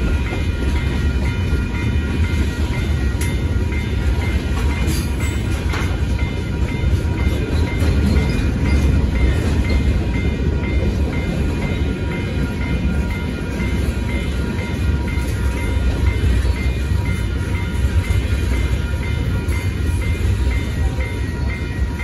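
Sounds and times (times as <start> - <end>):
crossing warning bell dinging: 0.0 - 22.0.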